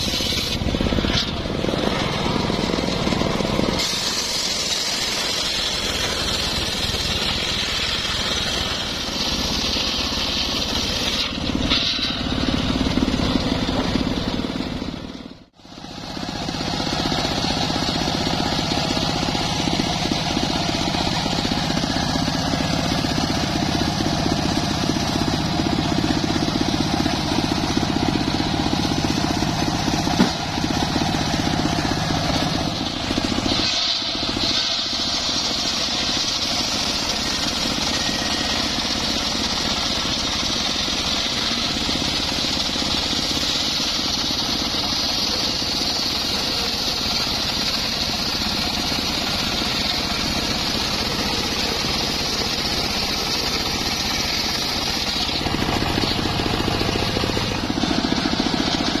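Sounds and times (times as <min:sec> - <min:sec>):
circular saw ripping through log: 0:00.0 - 0:14.2, 0:16.8 - 0:59.0.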